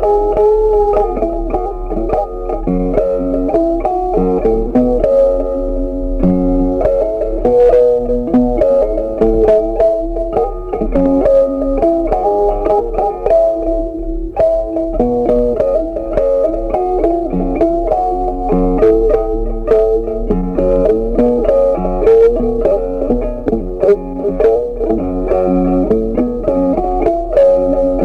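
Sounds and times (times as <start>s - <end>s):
plucked guitar melody: 0.0s - 28.0s.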